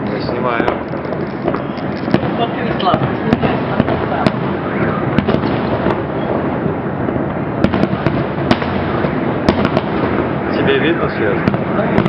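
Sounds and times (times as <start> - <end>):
rumble of firework bursts: 0.0 - 12.0
sharp firework cracks: 0.0 - 12.0.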